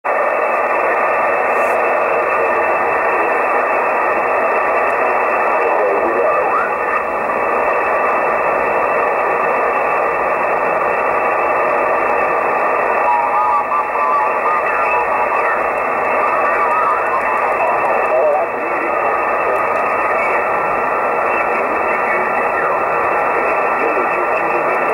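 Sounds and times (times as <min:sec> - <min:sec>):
shortwave radio static hiss: 0:00.1 - 0:24.9.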